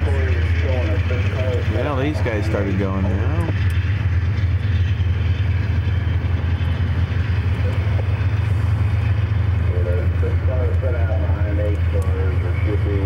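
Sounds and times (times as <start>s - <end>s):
diesel locomotives rumbling: 0.0s - 13.0s.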